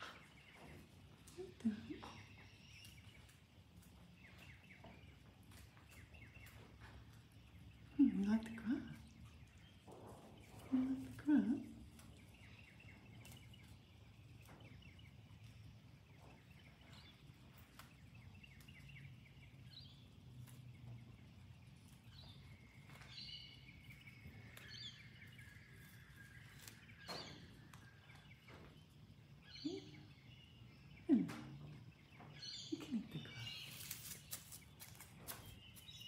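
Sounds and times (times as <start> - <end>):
distant bird calls: 0.0 - 36.0
faint low hum: 0.0 - 36.0.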